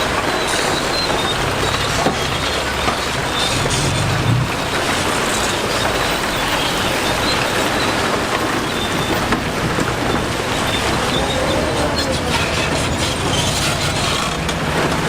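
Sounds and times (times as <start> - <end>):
machinery noise: 0.0 - 15.0.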